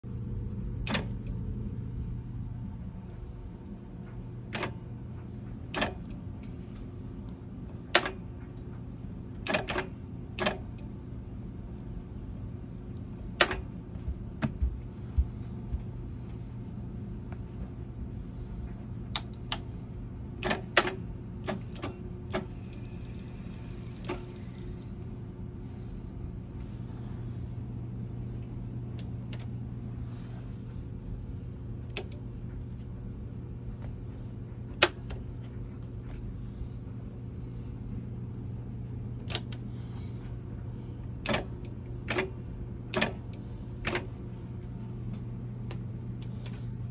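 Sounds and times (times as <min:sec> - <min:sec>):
low hum: 0:00.0 - 0:46.9.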